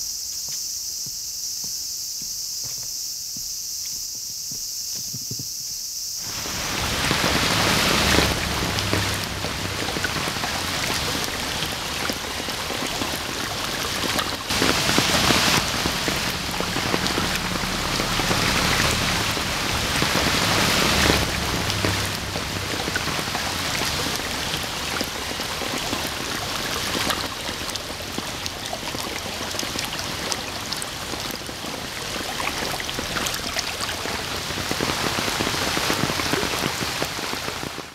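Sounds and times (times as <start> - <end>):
canal water rushing: 6.2 - 37.9
heavy rain falling: 6.2 - 37.9.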